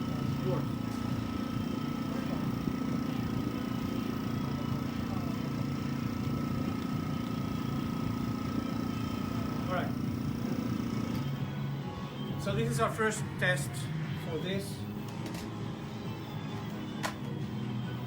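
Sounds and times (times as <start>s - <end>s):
air compressor humming: 0.0s - 17.3s.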